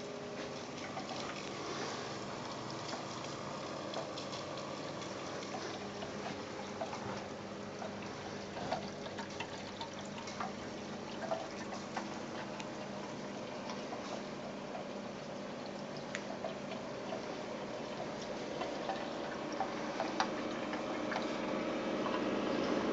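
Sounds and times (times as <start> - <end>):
water dripping: 0.1 - 22.9.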